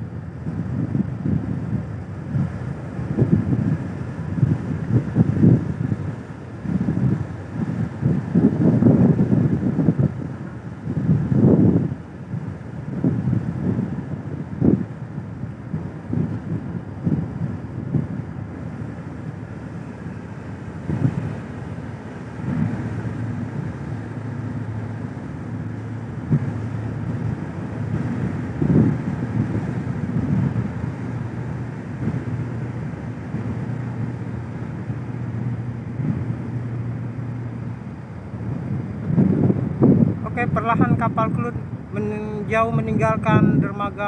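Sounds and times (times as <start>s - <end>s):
ship engines humming: 0.0s - 44.0s
wind buffeting microphone: 0.0s - 44.0s.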